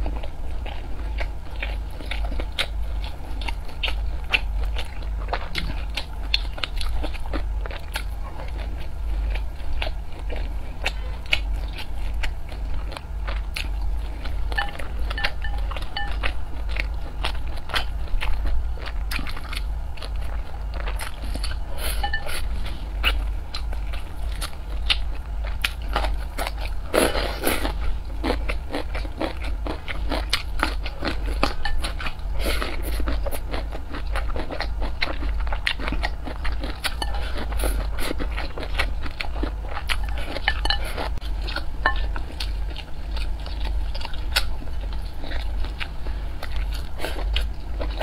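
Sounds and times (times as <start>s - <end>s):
low steady hum: 0.0s - 48.0s
person chewing rice: 0.0s - 48.0s.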